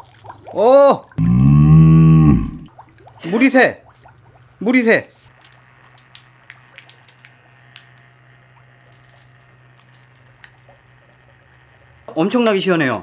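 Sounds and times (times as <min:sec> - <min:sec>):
water dripping and trickling: 0:00.0 - 0:01.2, 0:02.6 - 0:12.9
pump humming: 0:00.0 - 0:13.0.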